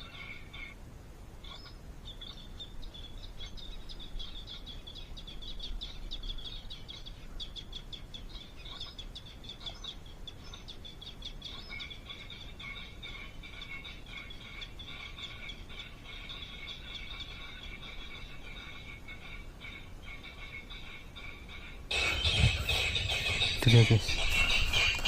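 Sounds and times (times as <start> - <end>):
small birds twittering: 0.0 - 25.0.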